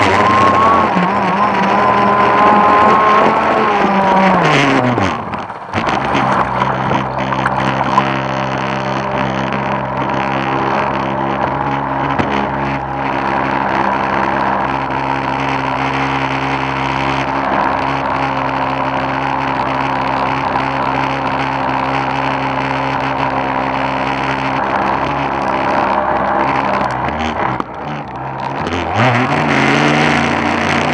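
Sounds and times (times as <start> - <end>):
water rushing along hull: 0.0 - 27.3
boat motor running: 0.0 - 30.9.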